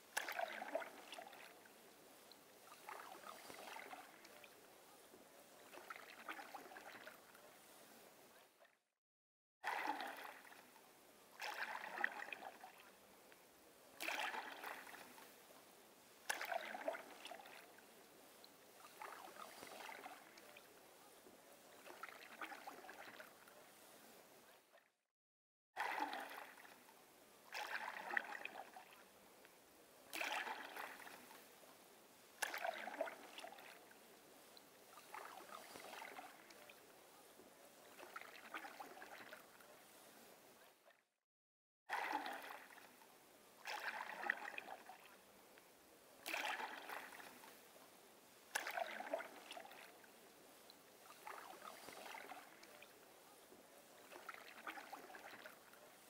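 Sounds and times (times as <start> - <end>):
paddle dipping and swishing: 0.0 - 8.8, 9.6 - 24.8, 25.8 - 41.0, 41.9 - 56.0
water lapping against hull: 0.0 - 8.8, 9.6 - 25.0, 25.8 - 41.0, 41.9 - 56.0.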